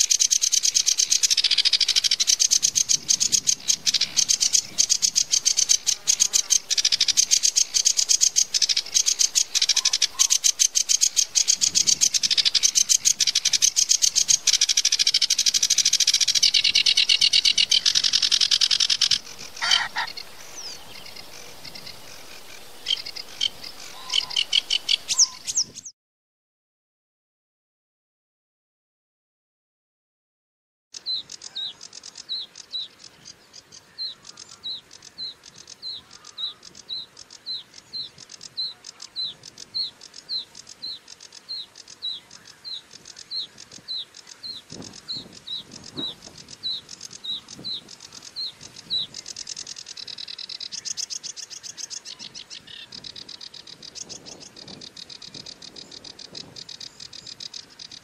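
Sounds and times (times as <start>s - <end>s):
warbler singing: 0.0s - 25.9s, 31.0s - 58.0s.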